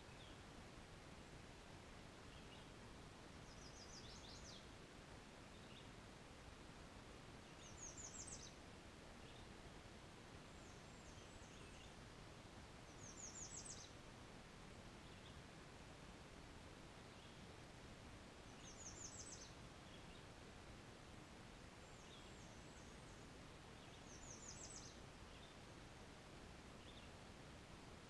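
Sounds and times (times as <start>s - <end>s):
low steady hiss: 0.0s - 28.0s.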